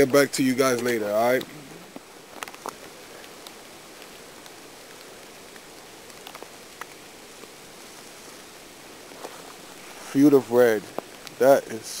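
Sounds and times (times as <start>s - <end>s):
rain on leaves: 0.0s - 12.0s.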